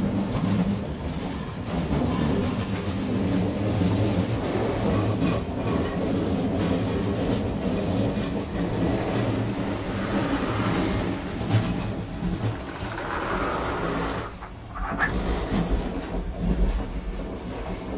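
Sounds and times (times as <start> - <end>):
train wheels rumbling and rattling: 0.0 - 17.9.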